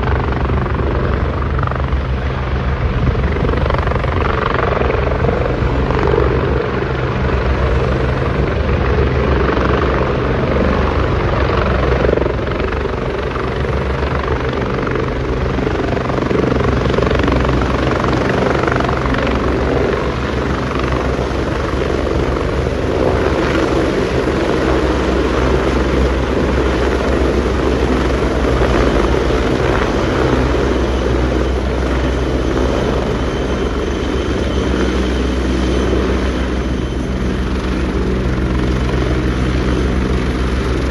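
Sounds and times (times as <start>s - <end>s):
helicopter hovering: 0.0s - 40.9s.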